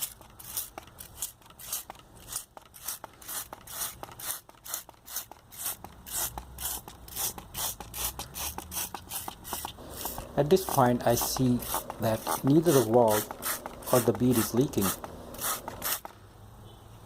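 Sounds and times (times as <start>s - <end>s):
spray bottle squirting: 0.0s - 16.2s.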